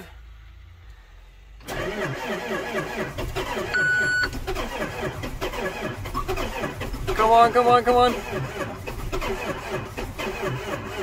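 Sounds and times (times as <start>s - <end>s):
tractor starter cranking engine: 1.5s - 11.0s.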